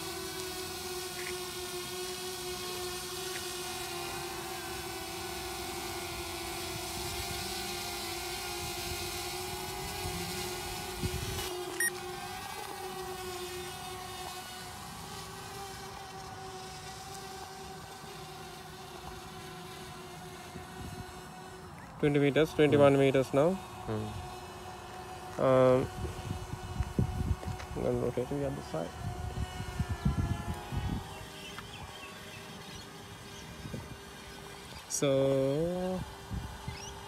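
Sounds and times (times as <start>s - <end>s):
drone propellers whining: 0.0s - 37.0s.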